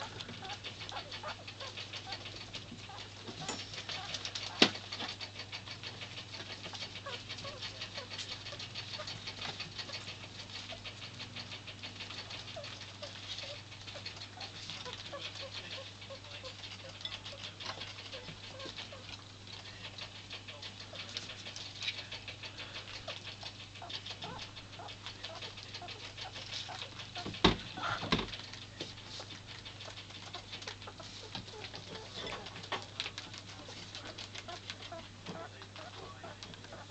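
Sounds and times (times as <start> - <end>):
rats chewing: 0.0 - 36.9.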